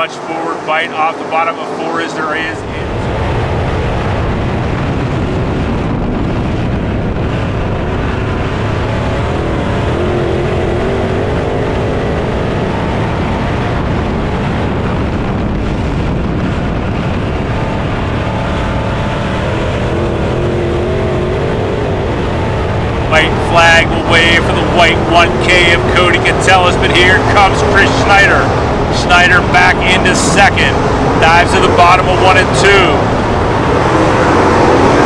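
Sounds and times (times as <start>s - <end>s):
race car engines: 0.0s - 35.0s.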